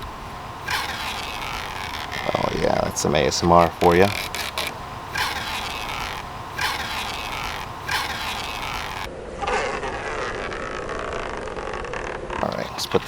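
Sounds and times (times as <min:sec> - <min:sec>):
adhesive tape backing peeled off: 0:00.0 - 0:12.2.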